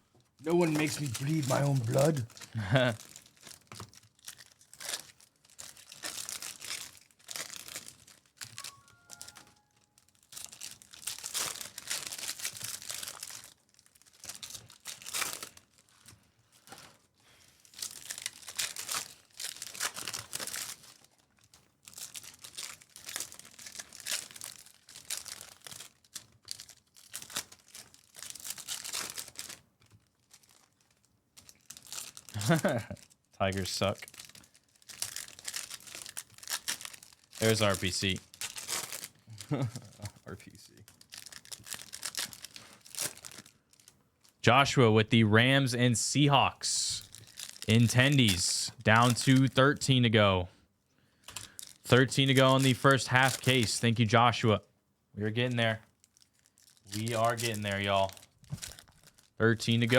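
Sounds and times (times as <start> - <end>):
foil wrappers tearing and crinkling: 0.3 - 44.4, 46.8 - 49.8, 51.2 - 53.9, 55.5 - 59.9.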